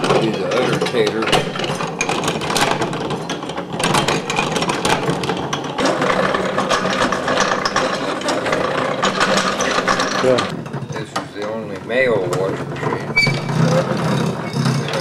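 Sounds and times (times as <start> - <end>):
washing machine gears clattering: 0.0 - 15.0.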